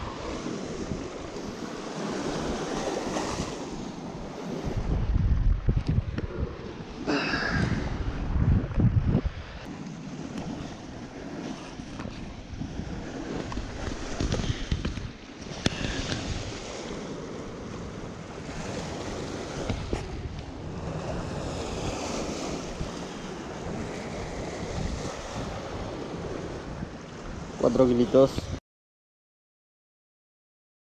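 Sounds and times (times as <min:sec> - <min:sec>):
wind buffeting microphone: 0:00.0 - 0:28.6.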